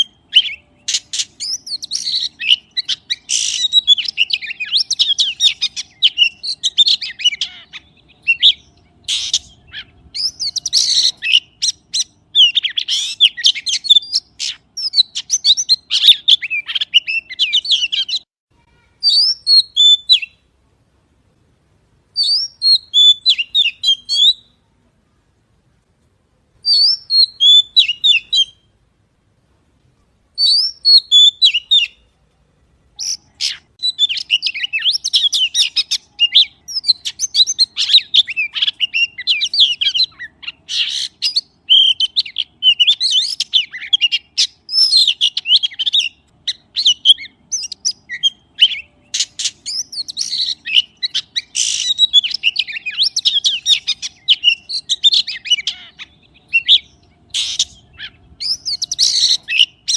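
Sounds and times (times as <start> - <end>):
magpie chirping: 0.0 - 18.3, 19.0 - 20.4, 22.2 - 24.5, 26.6 - 28.7, 30.4 - 32.0, 33.0 - 59.9.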